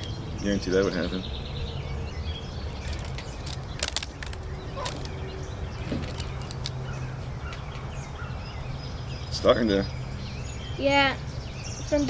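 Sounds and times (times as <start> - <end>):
birds chirping: 0.0 - 12.0
low outdoor background hum: 0.0 - 12.0.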